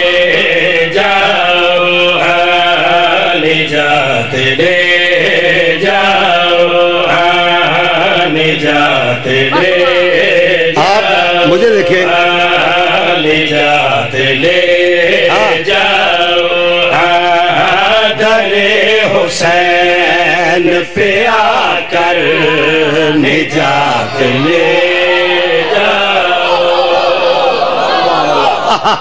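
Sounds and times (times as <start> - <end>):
men chanting devotional poem: 0.0 - 28.4.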